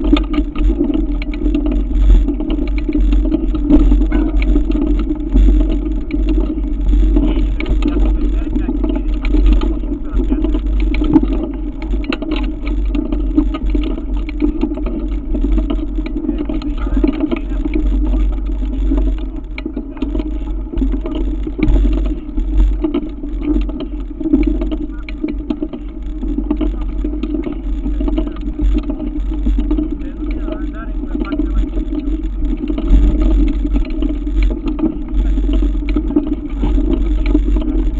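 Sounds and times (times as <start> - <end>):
bike rattling: 0.0 - 37.9
bike tyres crunching on gravel: 0.0 - 37.9
wind rumble on microphone: 0.0 - 37.9.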